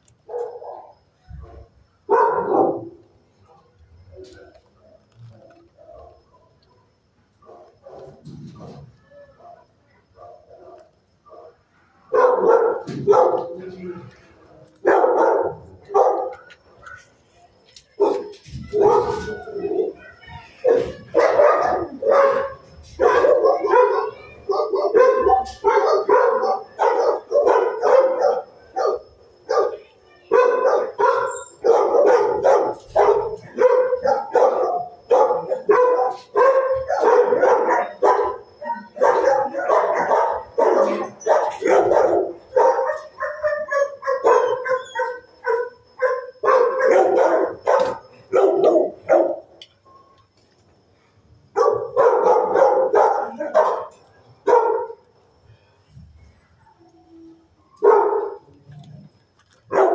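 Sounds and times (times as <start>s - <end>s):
dogs barking: 0.2s - 3.6s, 7.4s - 8.8s, 9.4s - 17.1s, 17.9s - 49.6s, 51.5s - 55.1s, 57.8s - 58.5s, 59.6s - 59.9s.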